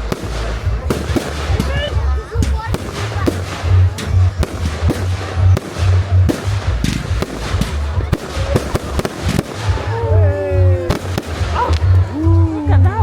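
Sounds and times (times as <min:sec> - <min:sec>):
fireworks bangs and crackles: 0:00.0 - 0:13.0
low pulsing bass: 0:00.0 - 0:13.0.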